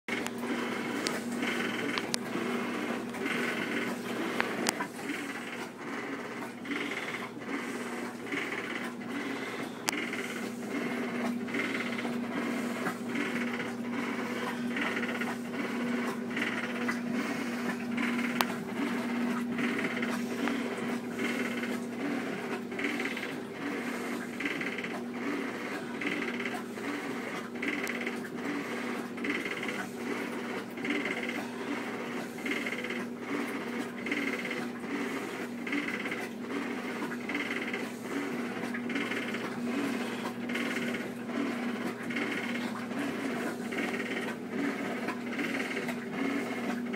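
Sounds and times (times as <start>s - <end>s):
pulsing rattle: 0.1s - 46.9s
washing machine agitating: 0.1s - 46.9s.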